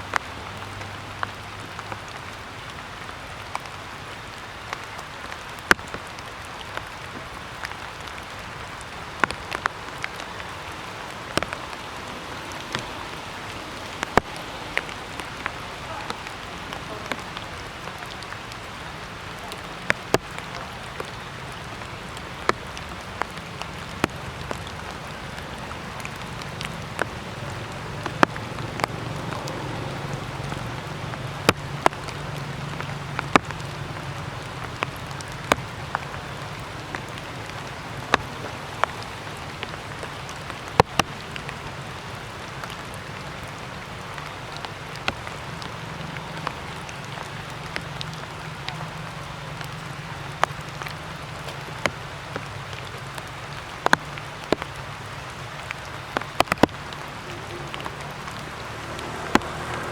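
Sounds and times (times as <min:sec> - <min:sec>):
rainwater dripping: 0:00.0 - 0:59.9
steady wet hiss: 0:00.0 - 0:59.9.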